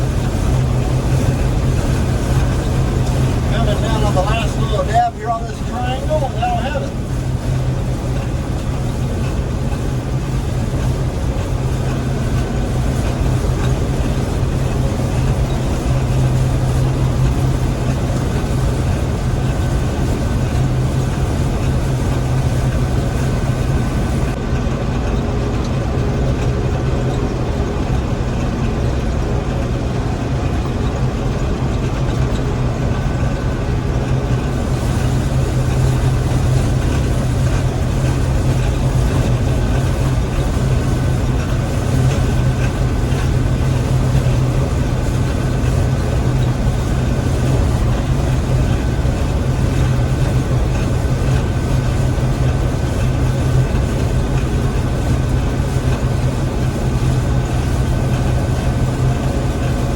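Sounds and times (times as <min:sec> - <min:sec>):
combine harvester engine hum: 0:00.0 - 0:59.9
machinery noise: 0:00.0 - 0:59.9.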